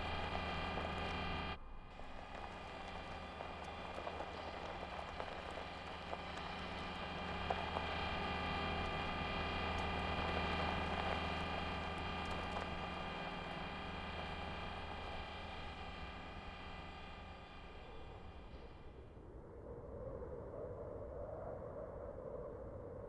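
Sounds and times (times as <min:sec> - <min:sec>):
mechanical whirring hum: 0:00.0 - 0:19.6.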